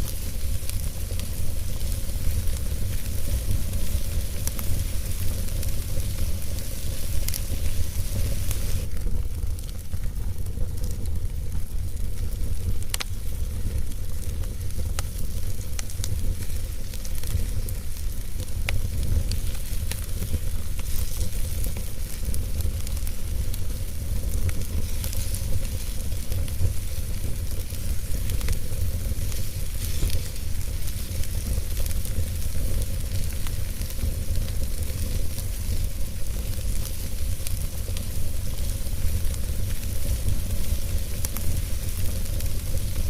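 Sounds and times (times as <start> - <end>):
fire crackling and popping: 0.0 - 43.0
fire rumbling and hissing: 0.0 - 43.0.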